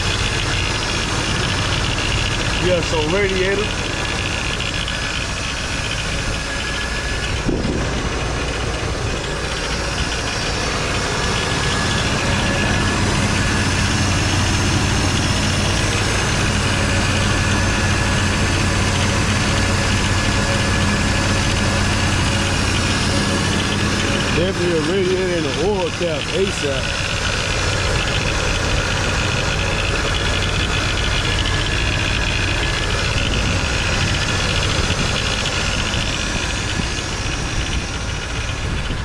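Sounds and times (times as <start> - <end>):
pickup engine idling: 0.0 - 39.0.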